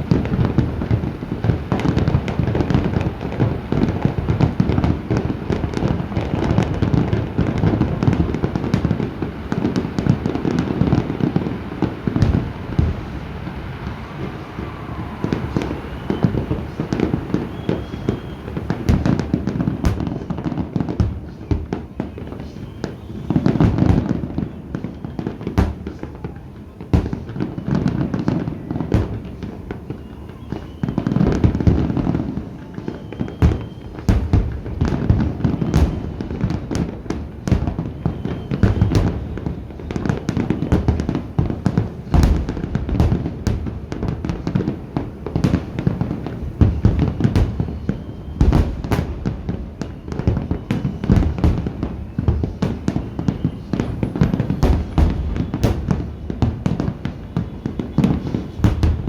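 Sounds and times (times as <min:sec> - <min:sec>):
fireworks bangs and crackling: 0:00.0 - 0:59.0
fireworks booms: 0:00.0 - 0:59.0.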